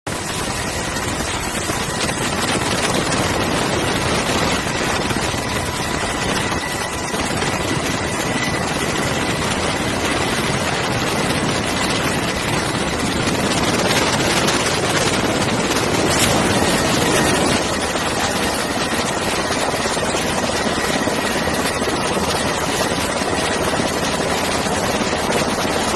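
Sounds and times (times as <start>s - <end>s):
jet engines at taxi power: 0.1s - 25.9s.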